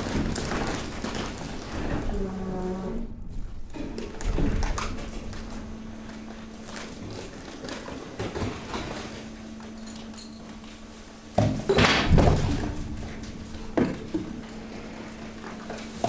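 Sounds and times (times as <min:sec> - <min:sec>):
waste being crushed: 0:00.0 - 0:02.2, 0:03.7 - 0:16.0.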